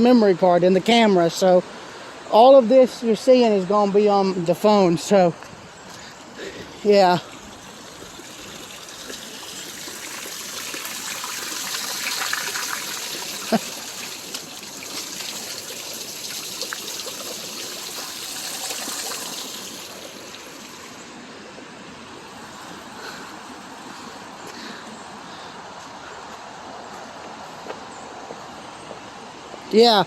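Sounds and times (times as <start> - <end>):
floodwater rushing in a creek: 0.0 - 30.0.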